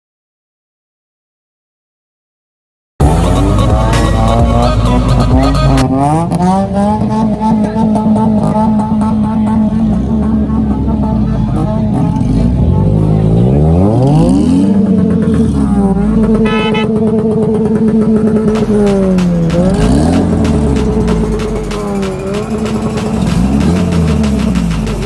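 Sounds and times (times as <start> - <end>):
engine revving: 3.0 - 25.0.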